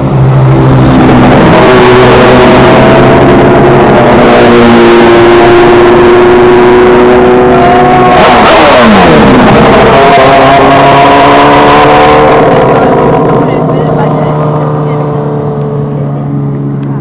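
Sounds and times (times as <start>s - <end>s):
race cars accelerating: 0.0s - 17.0s.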